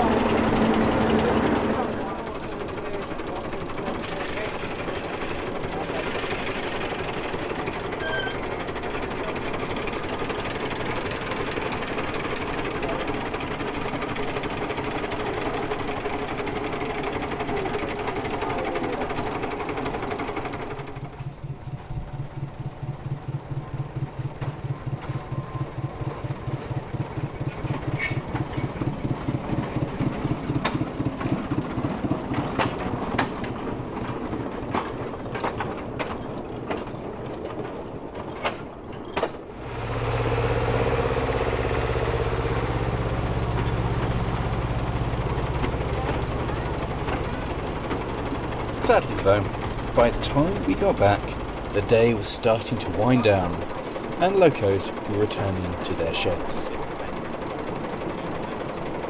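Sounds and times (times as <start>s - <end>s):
pulsing engine beat: 0.0s - 38.1s, 39.5s - 59.0s
locomotive engine running: 0.0s - 59.0s.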